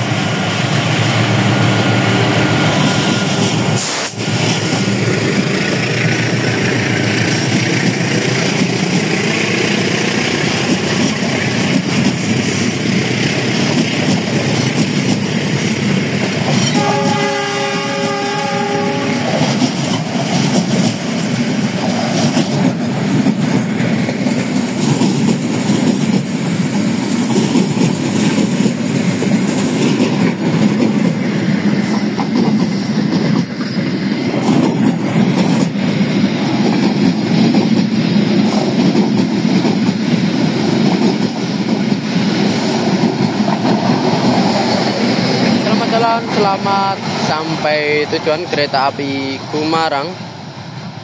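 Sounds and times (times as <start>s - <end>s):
train coaches rolling past: 0.0s - 51.0s
wheels clacking over rail joints: 2.1s - 17.2s, 18.8s - 48.2s.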